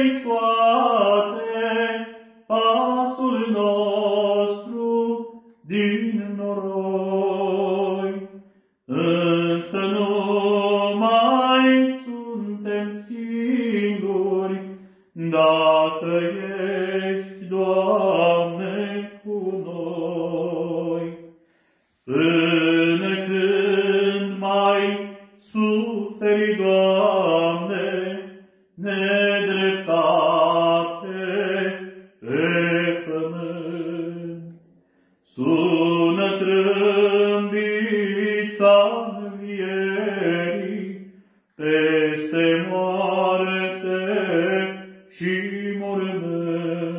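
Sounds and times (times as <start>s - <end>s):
man singing unaccompanied: 0.0s - 21.4s, 22.0s - 34.6s, 35.2s - 46.9s.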